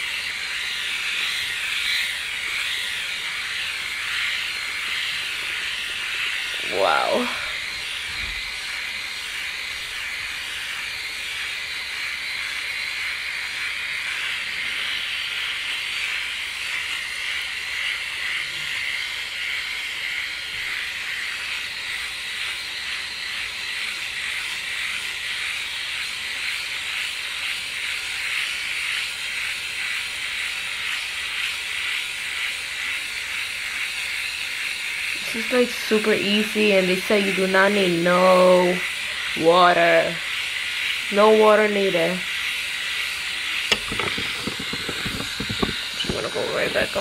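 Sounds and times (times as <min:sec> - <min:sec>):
electric shaver whirring: 0:00.0 - 0:47.0.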